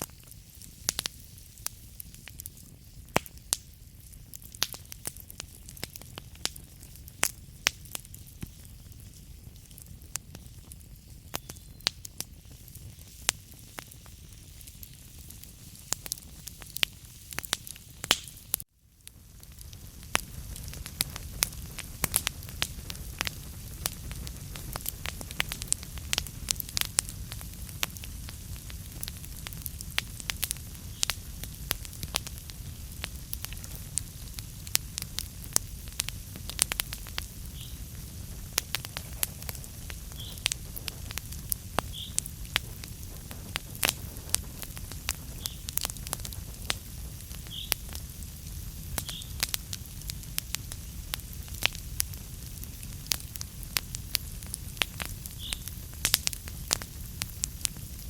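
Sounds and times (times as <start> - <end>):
logs crackling and popping: 0.0 - 58.0
low rumble of flame: 0.0 - 58.0.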